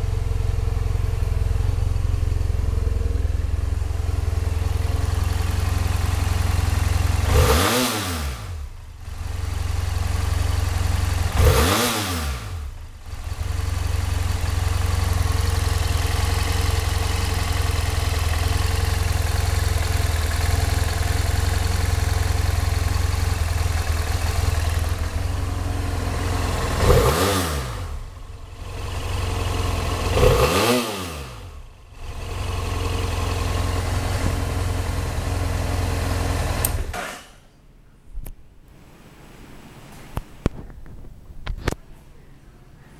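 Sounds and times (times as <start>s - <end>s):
motorcycle engine idling and revving: 0.0s - 37.2s.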